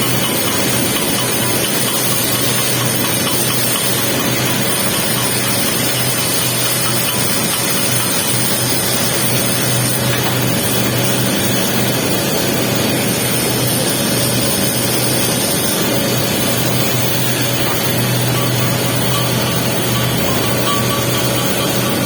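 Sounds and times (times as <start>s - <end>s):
arc welding crackling hiss: 0.0s - 22.0s
constant low hum: 0.0s - 22.0s.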